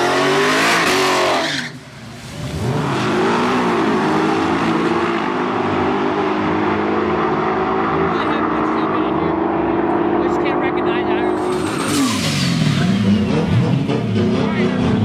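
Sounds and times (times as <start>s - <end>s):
car engine revving: 0.0s - 1.6s, 2.3s - 15.0s
cars accelerating at full throttle: 0.0s - 15.0s.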